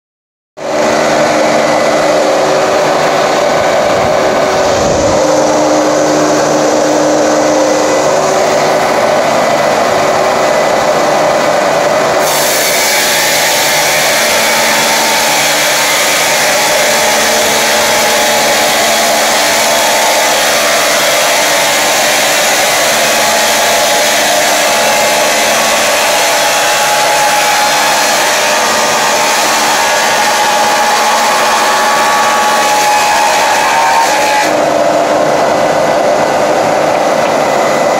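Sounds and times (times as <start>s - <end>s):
saw running with whir: 0.6s - 37.9s.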